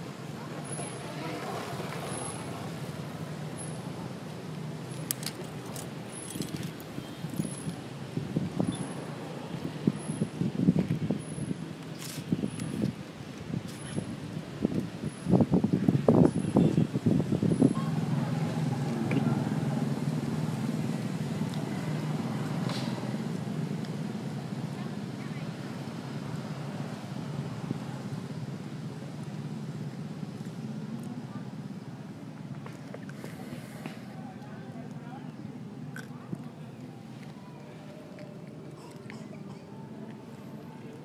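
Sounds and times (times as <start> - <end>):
engine humming steadily: 0.0 - 41.0.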